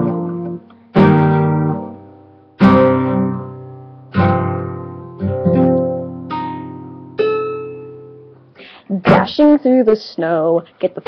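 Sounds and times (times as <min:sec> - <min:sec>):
classical guitar strumming chords: 0:00.0 - 0:09.6.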